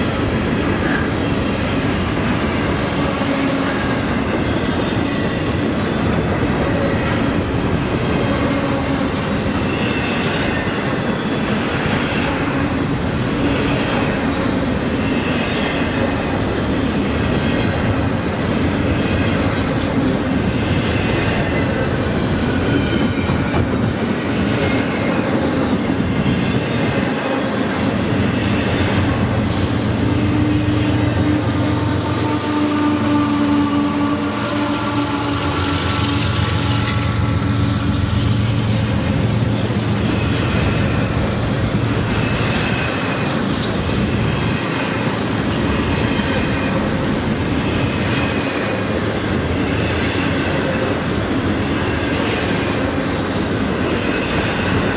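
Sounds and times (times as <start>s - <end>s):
diesel locomotive engine drone: 0.0s - 54.9s
rumble of railcars: 0.0s - 54.9s.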